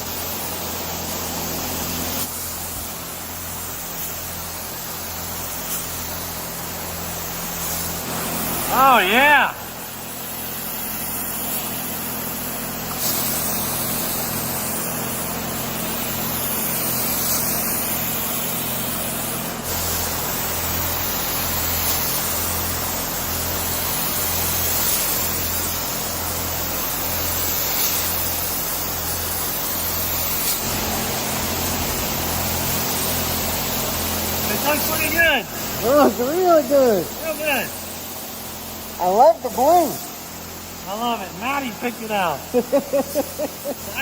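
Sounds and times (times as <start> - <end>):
paint spray gun hissing: 0.0 - 44.0.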